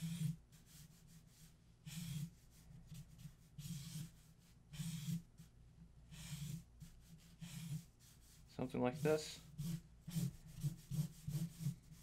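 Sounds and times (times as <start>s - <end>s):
marker rasping across paper: 0.0s - 12.0s.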